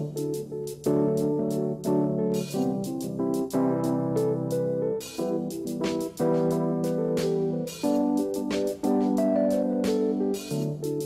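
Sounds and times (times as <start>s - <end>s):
held keyboard chords: 0.0s - 11.0s
steady beat: 0.0s - 11.0s.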